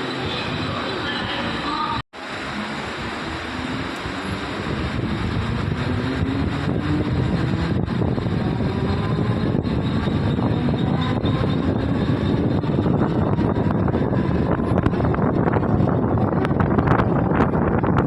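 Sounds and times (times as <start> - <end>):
faint rising train whine: 0.0 - 17.2
train wheels rumbling on track: 0.0 - 18.0.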